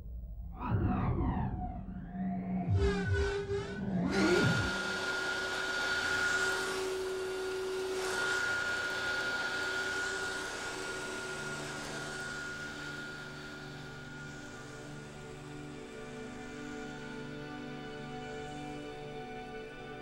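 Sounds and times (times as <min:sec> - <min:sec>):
low sustained musical notes: 0:00.7 - 0:20.0
vacuum cleaner whining: 0:02.7 - 0:20.0.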